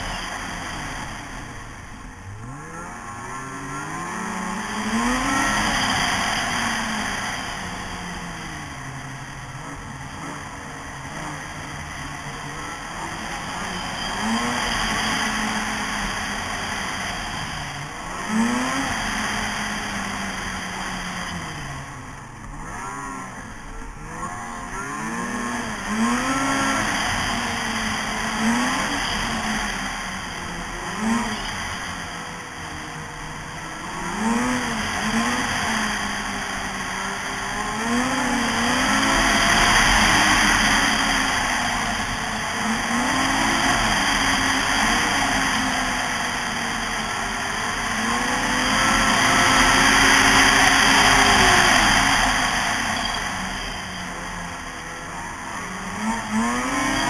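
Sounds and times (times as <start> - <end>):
snowmobile engine revving: 0.0 - 57.0
steady rushing noise: 0.0 - 57.0.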